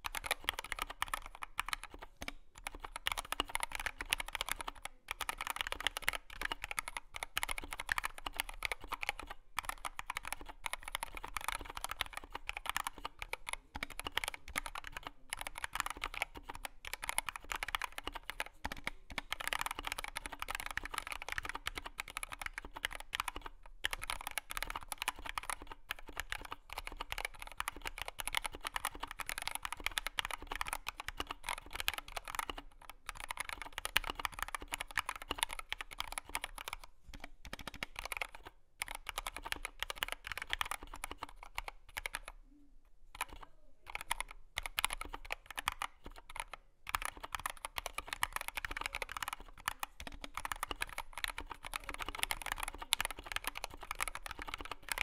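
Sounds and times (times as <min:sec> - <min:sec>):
mechanical keyboard typing: 0:00.0 - 0:42.4, 0:43.1 - 0:55.0.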